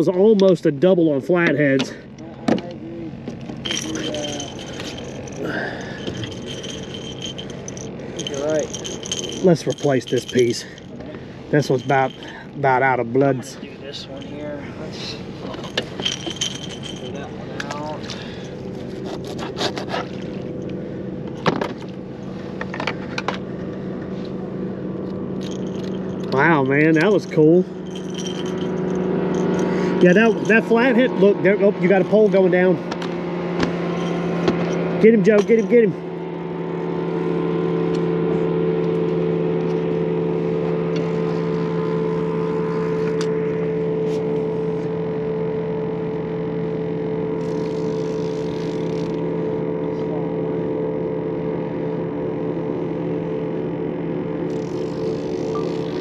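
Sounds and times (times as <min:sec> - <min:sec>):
outboard motor idling: 0:00.0 - 0:56.0
low hum: 0:02.6 - 0:56.0.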